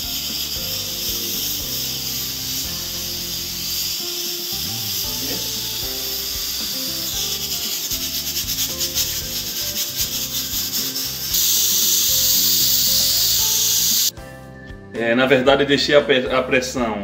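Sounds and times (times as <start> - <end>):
pressure cooker steam hissing: 0.0 - 14.1
background music: 0.0 - 17.0.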